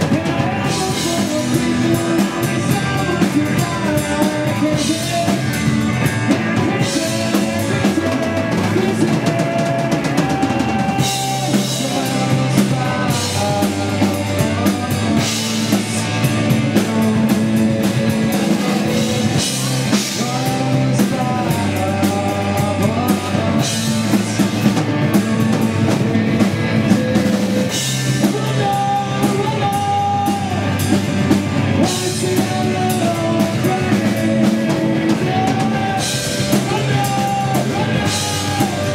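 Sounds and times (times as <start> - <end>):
rock drumming on drum kit: 0.0 - 38.9.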